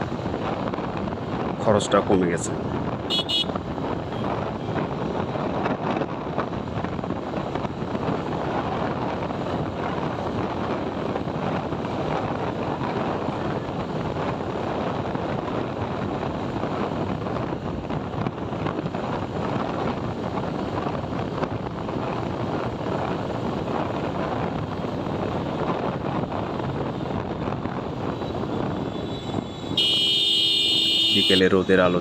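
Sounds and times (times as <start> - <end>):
motorcycle engine and road noise: 0.0 - 32.0
wind rushing over microphone: 0.0 - 32.0.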